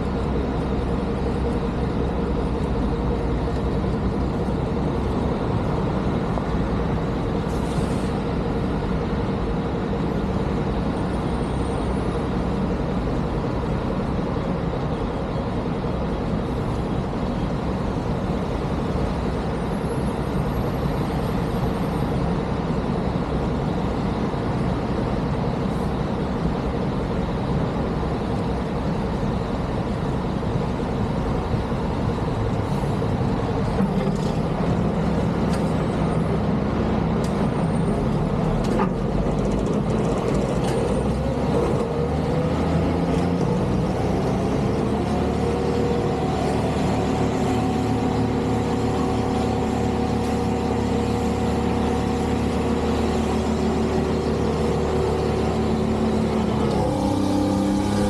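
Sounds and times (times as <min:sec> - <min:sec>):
heavy vehicle engines droning: 0:00.0 - 0:58.0.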